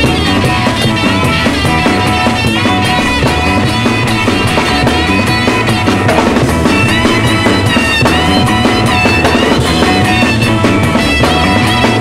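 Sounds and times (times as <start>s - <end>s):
garage rock band playing: 0.0s - 12.0s.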